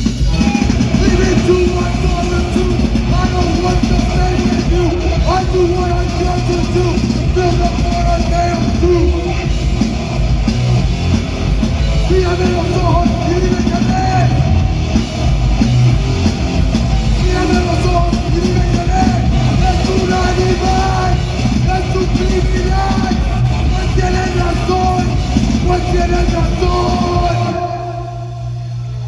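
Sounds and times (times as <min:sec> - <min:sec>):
live band playing heavy rock: 0:00.0 - 0:29.0.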